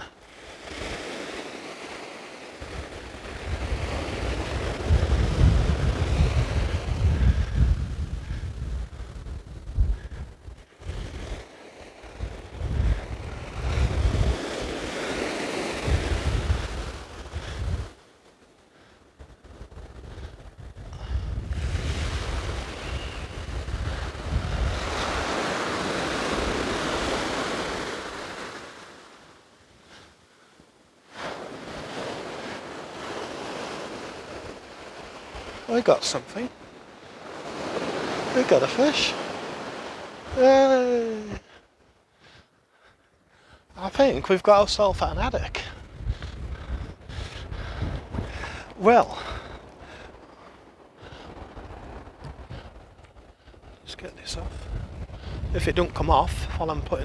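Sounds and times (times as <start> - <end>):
wind buffeting microphone: 0.0 - 29.3, 31.3 - 57.0
sea waves breaking on beach: 0.0 - 57.0.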